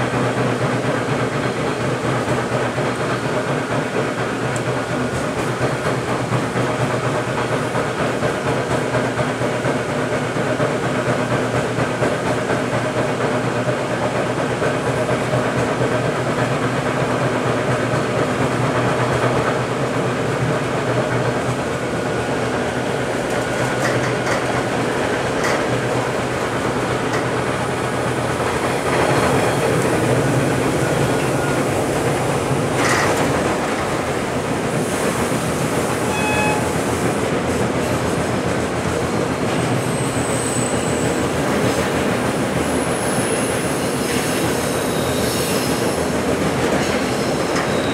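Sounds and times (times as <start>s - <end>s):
subway train running: 0.0s - 47.9s.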